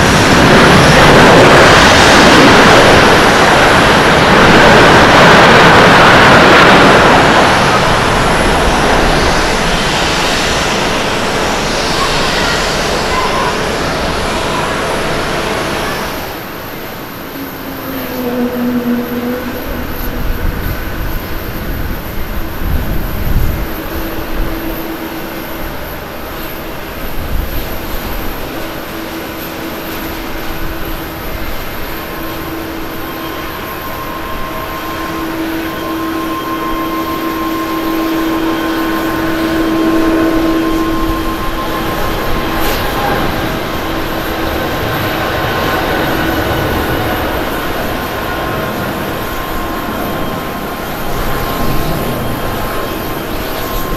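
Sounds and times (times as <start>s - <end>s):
high engine whine: 0.0s - 53.9s
jet engines rumbling at takeoff: 0.0s - 53.9s.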